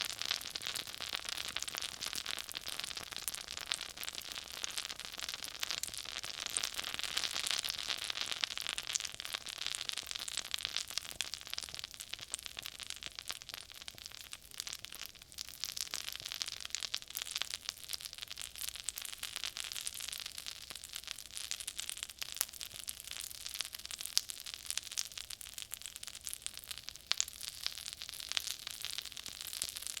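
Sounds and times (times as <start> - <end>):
oil sizzling in a skillet: 0.0 - 30.0.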